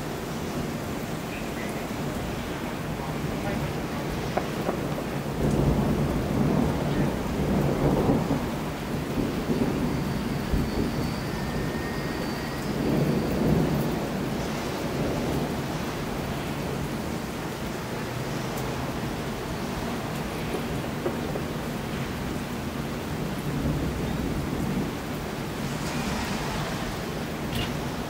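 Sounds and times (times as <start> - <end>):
steady rain: 0.0 - 28.0
rolling thunder: 2.1 - 28.0.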